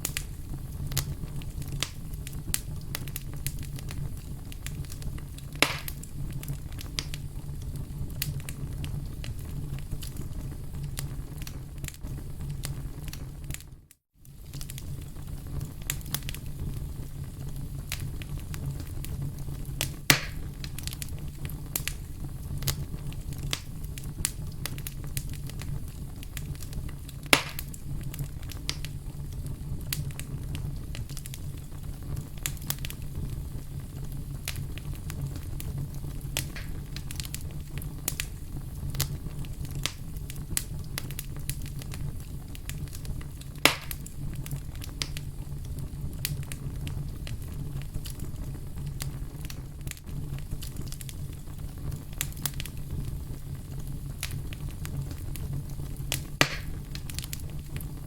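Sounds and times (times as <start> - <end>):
loud cracks of fire: 0.0 - 58.0
wood fire crackling: 0.0 - 58.0.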